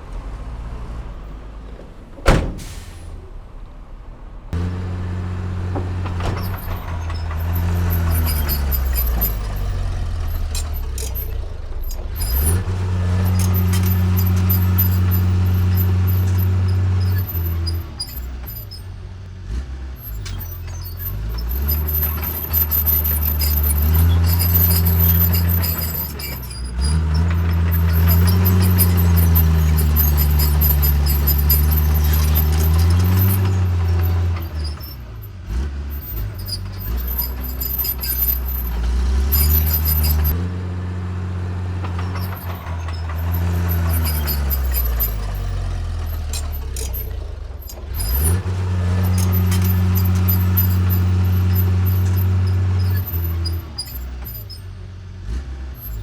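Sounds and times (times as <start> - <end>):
heavy diesel engine revving: 4.6 - 54.5.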